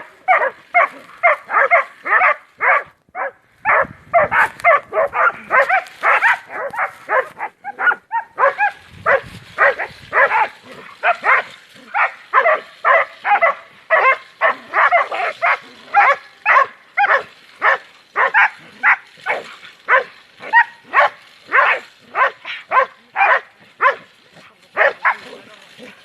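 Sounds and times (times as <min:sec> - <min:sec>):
dog barking rapidly: 0:00.3 - 0:24.1, 0:24.8 - 0:25.3.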